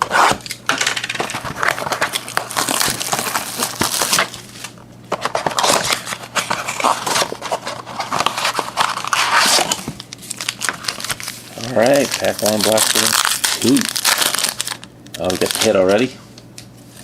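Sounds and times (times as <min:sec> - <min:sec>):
packaging crinkling and tearing: 0:00.0 - 0:16.1.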